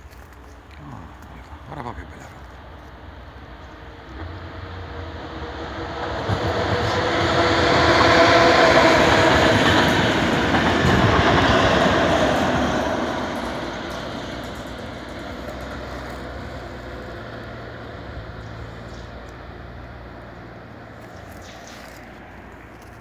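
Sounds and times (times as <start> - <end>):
electric train passing: 1.6 - 23.0.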